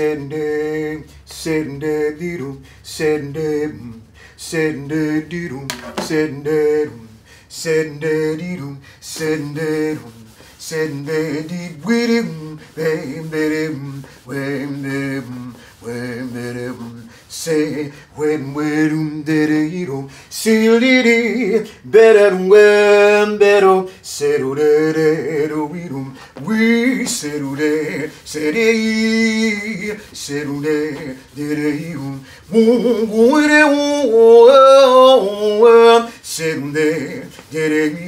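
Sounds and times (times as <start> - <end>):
man singing wordless melody: 0.0 - 38.0.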